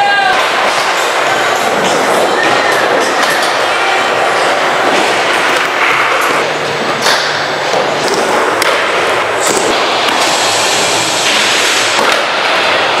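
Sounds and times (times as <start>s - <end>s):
skateboard wheels rolling: 0.0s - 13.0s
skateboard clacks: 0.1s - 10.3s, 11.2s - 13.0s.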